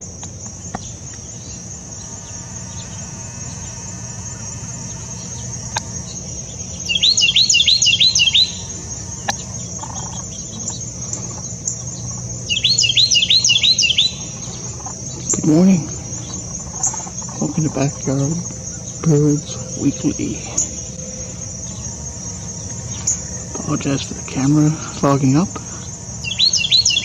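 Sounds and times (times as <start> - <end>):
crickets chirping: 0.0 - 27.0
wren singing rolling notes: 0.0 - 27.0.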